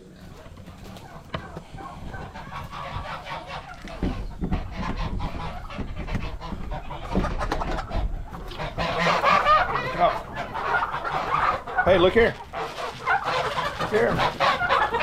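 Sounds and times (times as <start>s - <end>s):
low thumps of movement: 0.0s - 13.0s
chickens clucking: 0.0s - 15.0s.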